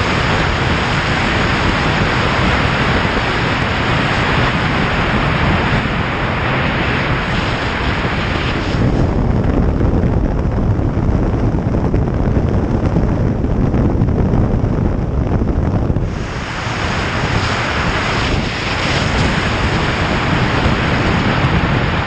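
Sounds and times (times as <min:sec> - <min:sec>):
motorcycle engine and road rumble: 0:00.0 - 0:22.0
wind buffeting microphone: 0:00.0 - 0:22.0.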